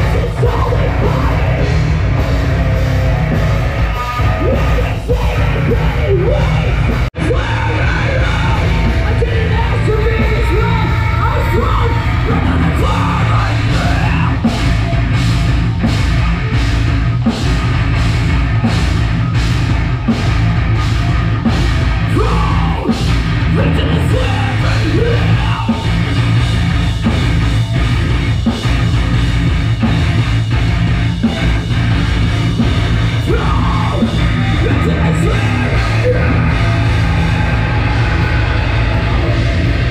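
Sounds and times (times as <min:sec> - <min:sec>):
heavy metal music: 0:00.0 - 0:39.9.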